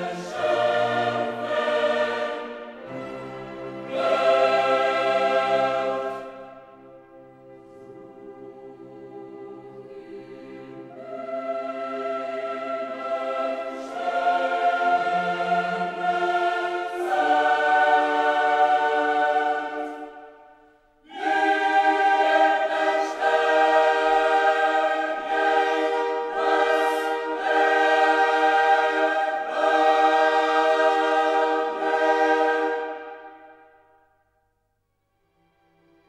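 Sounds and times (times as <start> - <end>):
choir singing held chords: 0.0 - 34.4.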